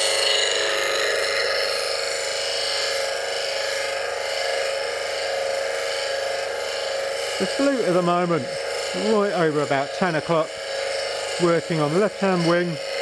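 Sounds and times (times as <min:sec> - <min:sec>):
bench grinder motor: 0:00.0 - 0:13.0
steel grinding on grinder wheel: 0:00.0 - 0:13.0.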